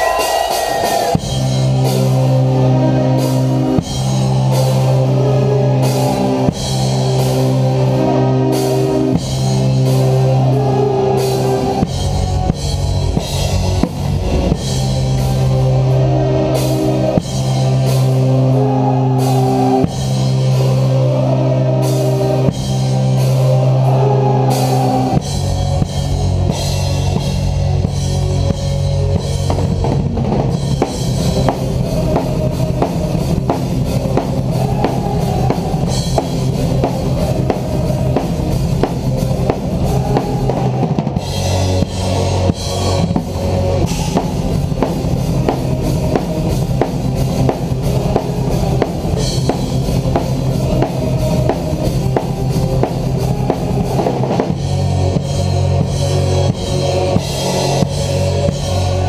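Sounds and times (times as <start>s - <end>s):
drumming: 0.0s - 59.0s
metal band playing live: 0.0s - 59.0s.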